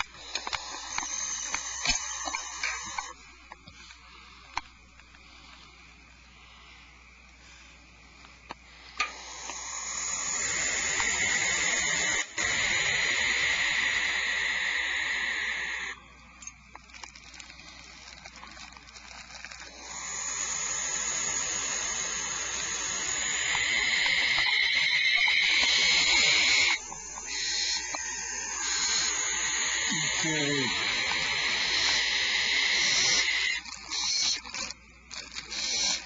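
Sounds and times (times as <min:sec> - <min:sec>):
barn owls hissing: 0:00.0 - 0:16.1, 0:16.8 - 0:36.0.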